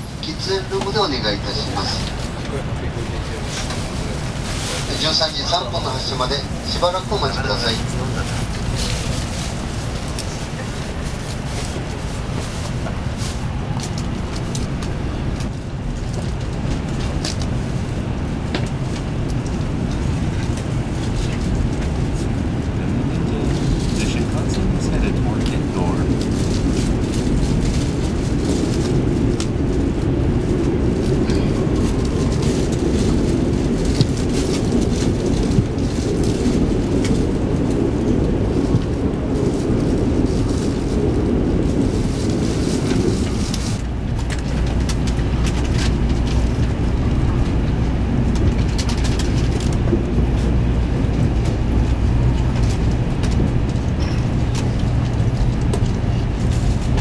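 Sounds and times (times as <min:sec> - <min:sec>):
low hum of moving train: 0:00.0 - 0:57.0
train rumble: 0:00.0 - 0:57.0.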